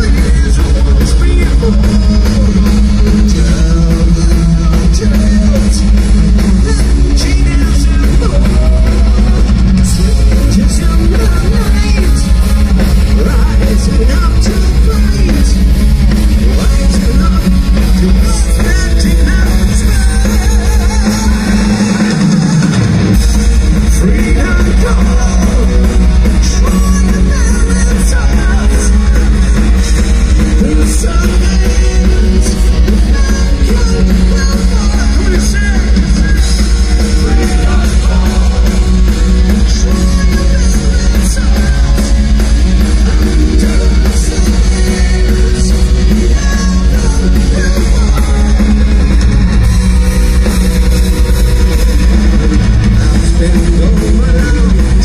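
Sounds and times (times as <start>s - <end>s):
bass guitar: 0.0s - 55.0s
distorted electric guitars: 0.0s - 55.0s
driving drum kit: 0.0s - 55.0s
person singing: 0.0s - 55.0s
power metal band playing live: 0.0s - 55.0s.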